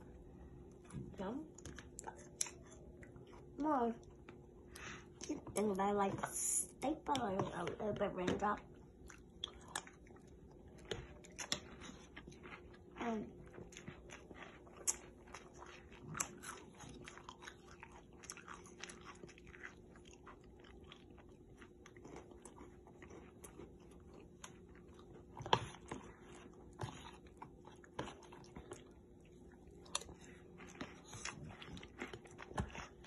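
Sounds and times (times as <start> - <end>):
child chewing crunchy cereal: 0.0 - 33.0.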